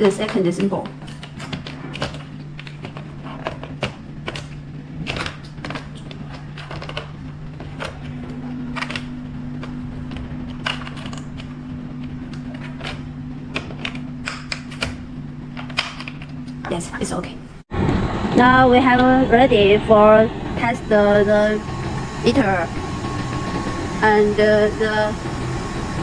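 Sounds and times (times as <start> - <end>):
higher hum tone: 0.0 - 26.0
steady low hum: 0.0 - 26.0.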